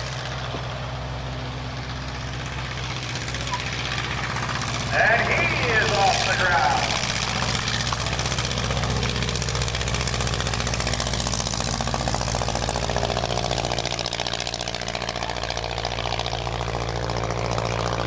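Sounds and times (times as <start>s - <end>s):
propeller plane engine chattering: 0.0s - 18.0s.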